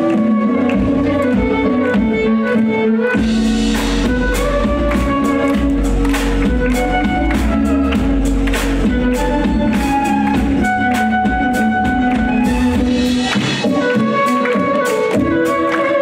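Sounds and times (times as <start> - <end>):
drums and heavy bass backing: 0.0 - 16.0
violins playing a melody: 0.0 - 16.0.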